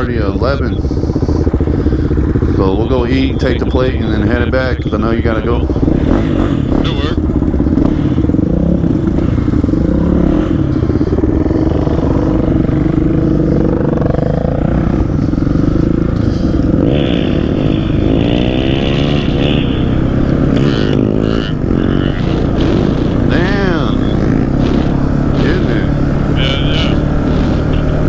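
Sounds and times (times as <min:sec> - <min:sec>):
dirt bike engine accelerating: 0:00.0 - 0:28.0.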